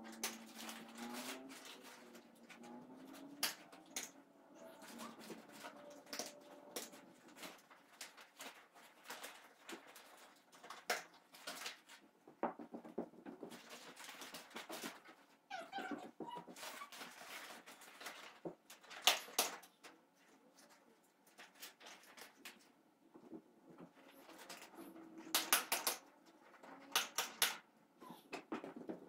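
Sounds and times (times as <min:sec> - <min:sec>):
paper rustling and crackling: 0:00.0 - 0:12.2, 0:13.0 - 0:15.4, 0:16.6 - 0:27.6.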